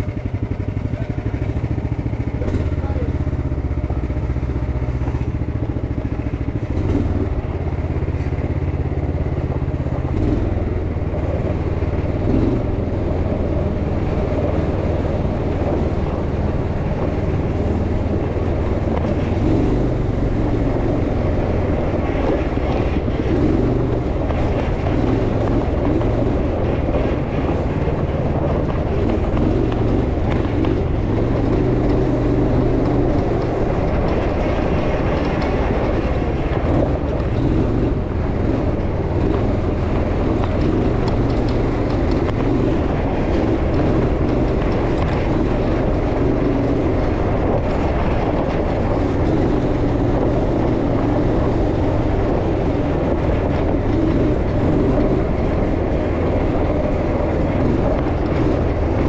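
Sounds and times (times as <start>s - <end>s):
off-road buggy engine running: 0.0s - 59.0s.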